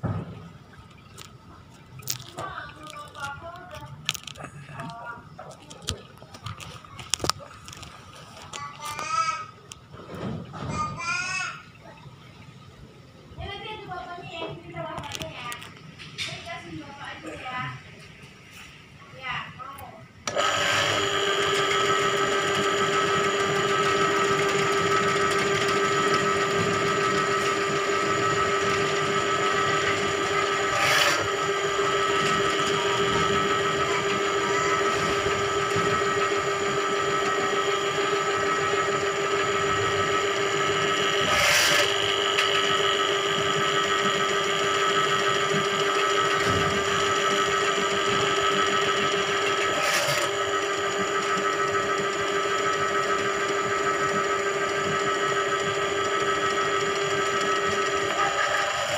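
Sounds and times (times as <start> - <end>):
drain-cleaning machine motor whine: 0.0 - 10.8, 20.0 - 58.9.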